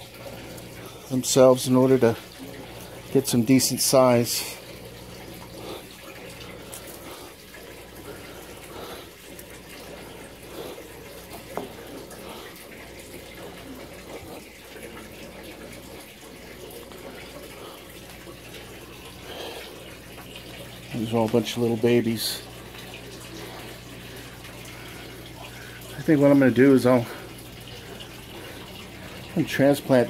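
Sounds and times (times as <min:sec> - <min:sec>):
running water: 0:00.0 - 0:30.0.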